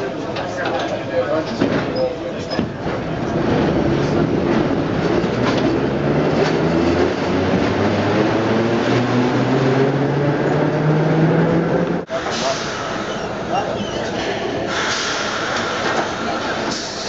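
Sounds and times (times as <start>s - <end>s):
subway wheel and rail noise: 0.0s - 17.0s.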